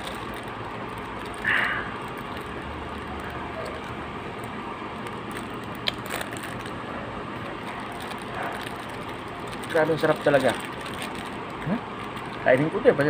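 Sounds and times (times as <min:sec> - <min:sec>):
plastic wrapper crinkling: 0:00.0 - 0:13.0
steady background noise: 0:00.0 - 0:13.0.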